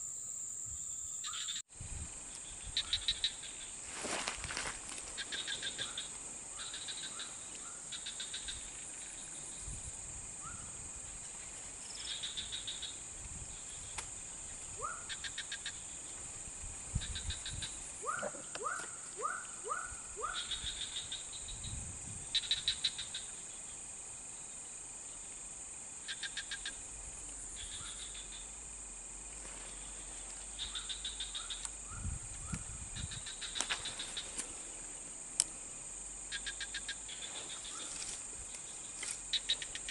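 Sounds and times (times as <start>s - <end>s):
insects high-pitched drone: 0.0s - 39.9s.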